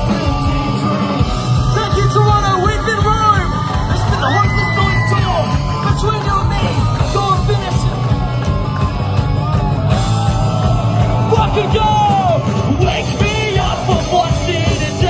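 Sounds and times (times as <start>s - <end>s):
shouted lead vocal: 0.0s - 8.0s, 9.4s - 15.0s
punk rock band playing live: 0.0s - 15.0s.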